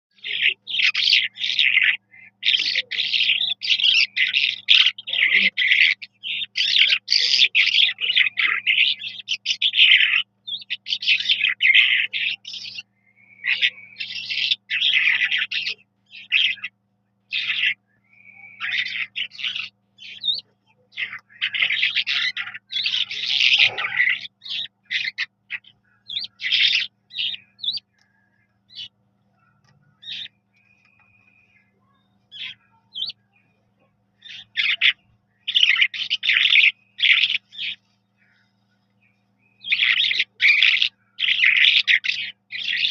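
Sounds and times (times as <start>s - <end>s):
skylark singing: 0.1s - 42.9s.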